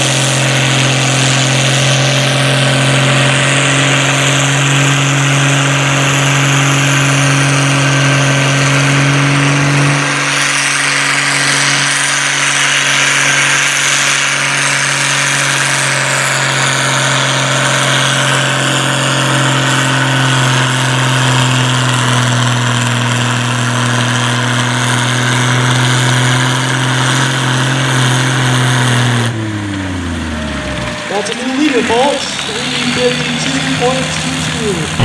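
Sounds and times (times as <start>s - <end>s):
tractor engine running hard: 0.0s - 35.0s.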